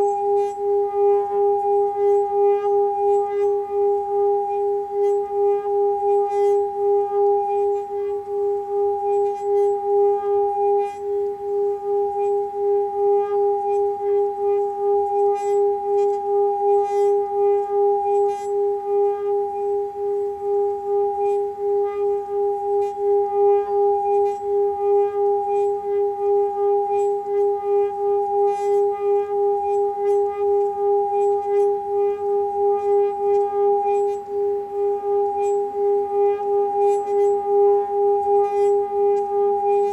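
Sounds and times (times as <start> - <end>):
singing bowl humming tone: 0.0 - 39.9.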